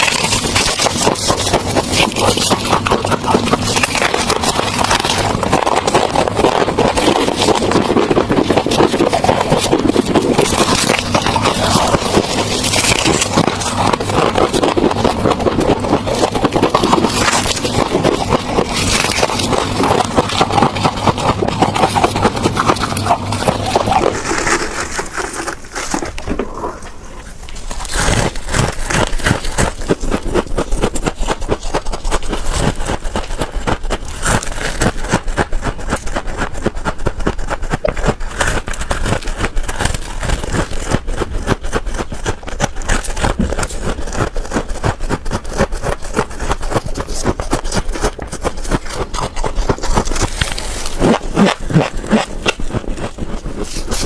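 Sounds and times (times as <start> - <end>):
frost ice crunching and crackling: 0.0 - 54.0.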